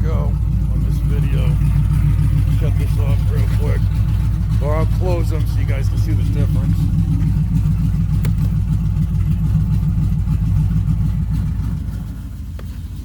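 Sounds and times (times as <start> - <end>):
truck engine idling loud: 0.0 - 13.0.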